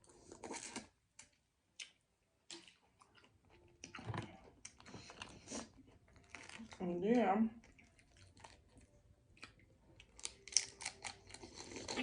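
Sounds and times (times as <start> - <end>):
person chewing food: 0.0 - 6.8, 7.6 - 12.0.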